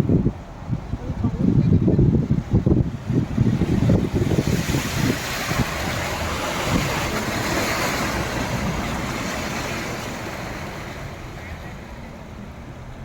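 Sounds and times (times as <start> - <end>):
flood water rushing and splashing: 0.0 - 13.0
wind rumbling on microphone: 0.0 - 13.0.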